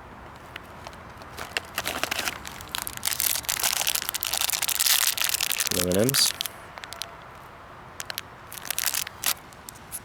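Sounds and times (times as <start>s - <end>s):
plastic packets crinkling: 0.4s - 9.8s.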